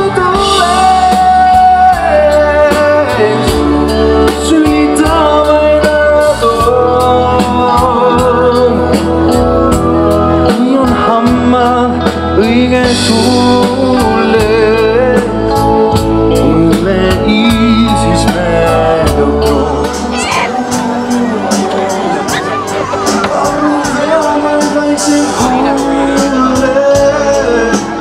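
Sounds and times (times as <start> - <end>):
band music: 0.0 - 28.0
person singing: 0.0 - 28.0
steady drumbeat: 0.0 - 28.0.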